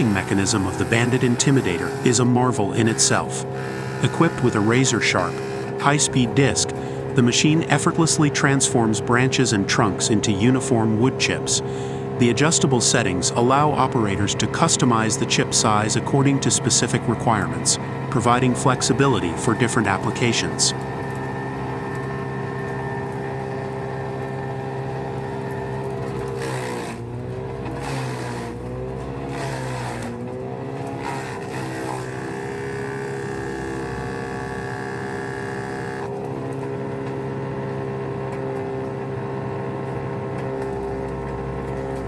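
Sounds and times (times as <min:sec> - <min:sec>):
wood chipping bursts: 0:00.0 - 0:10.6, 0:11.7 - 0:36.2
wood chipper engine running: 0:00.0 - 0:42.0.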